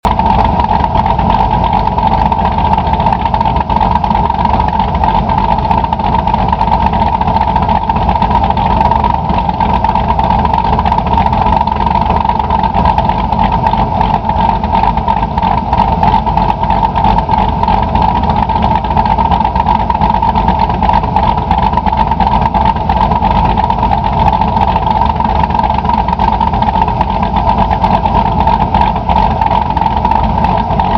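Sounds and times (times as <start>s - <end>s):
car engine rough idle: 0.0s - 30.9s.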